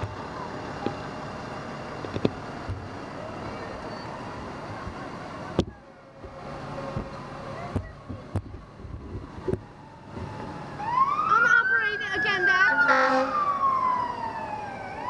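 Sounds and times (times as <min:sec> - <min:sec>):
fire engine running: 0:00.0 - 0:15.0.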